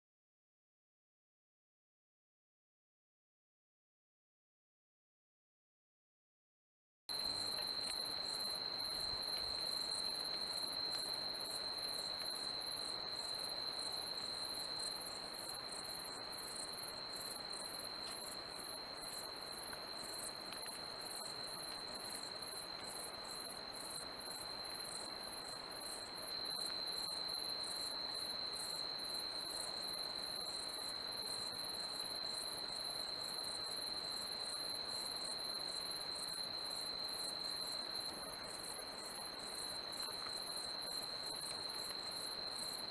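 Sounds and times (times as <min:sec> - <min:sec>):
crickets trilling: 0:07.1 - 0:42.9
high pulsing insect chirp: 0:07.1 - 0:42.9.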